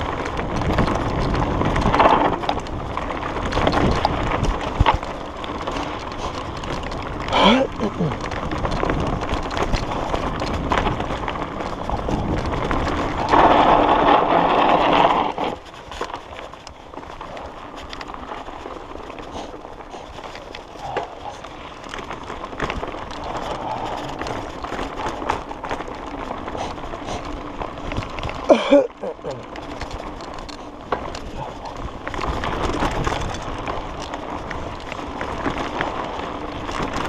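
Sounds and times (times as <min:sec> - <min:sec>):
bike rattling and clicking: 0:00.0 - 0:37.0
tyre and wind noise: 0:00.0 - 0:37.0.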